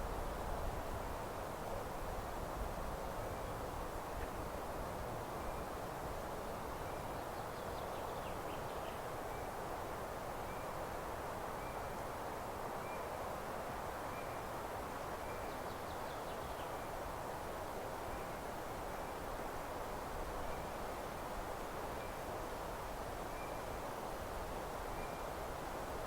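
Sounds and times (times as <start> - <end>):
wind rustling grass and leaves: 0.0 - 26.0.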